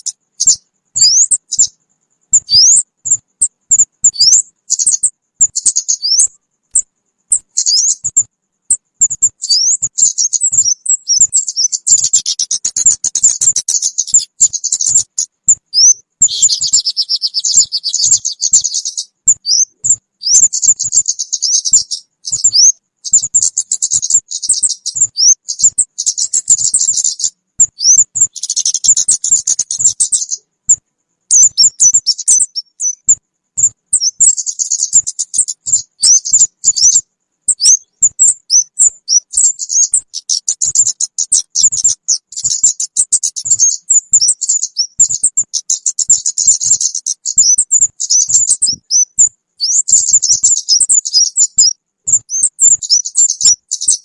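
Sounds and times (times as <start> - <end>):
bird call chirps and trills: 0.0 - 54.0.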